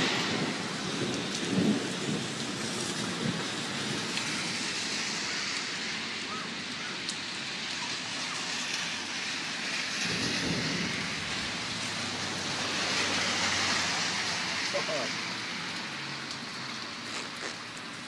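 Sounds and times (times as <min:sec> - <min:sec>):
rain falling on street: 0:00.0 - 0:18.0.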